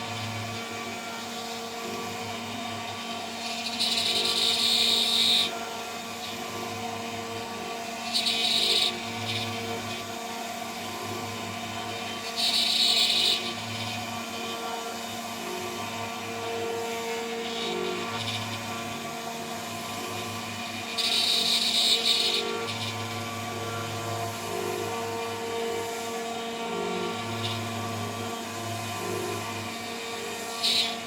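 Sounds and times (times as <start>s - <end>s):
axis motors humming: 0.0s - 31.0s
cnc router spindle cutting: 0.0s - 31.0s.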